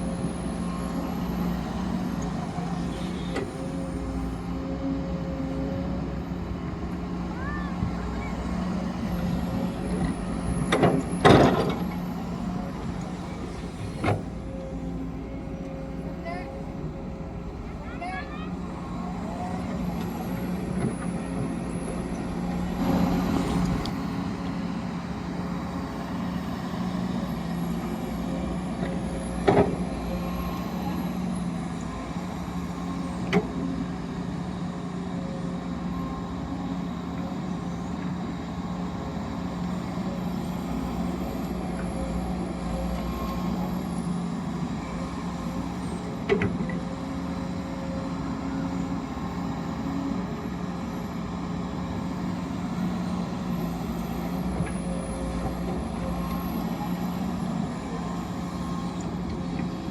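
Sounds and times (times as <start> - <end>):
heavy machine engine drone: 0.0 - 59.9.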